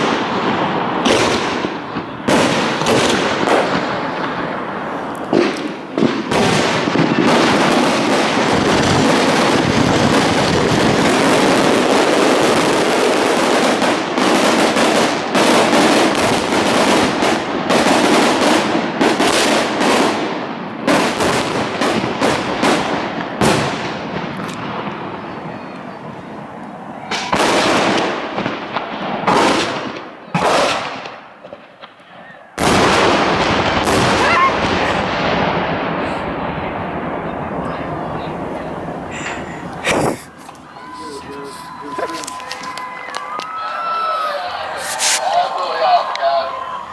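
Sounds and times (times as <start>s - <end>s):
fireworks bursting: 0.0s - 46.9s
fireworks crackling: 0.0s - 46.9s.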